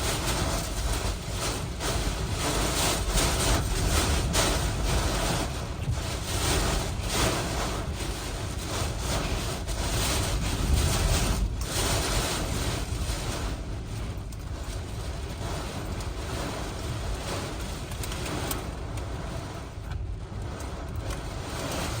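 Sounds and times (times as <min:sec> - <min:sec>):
hurricane wind gusting: 0:00.0 - 0:22.0.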